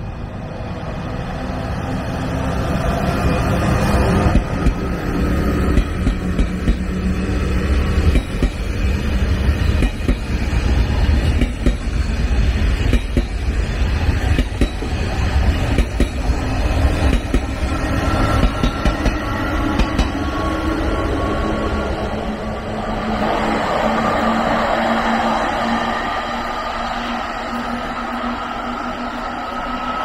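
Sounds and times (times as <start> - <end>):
train passing with deep rumble: 0.0 - 30.0.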